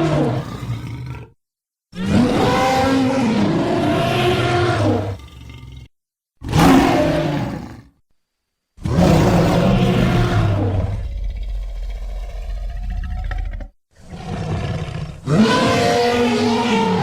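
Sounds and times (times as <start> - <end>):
dinosaur roars: 2.0 - 7.9, 8.8 - 17.0.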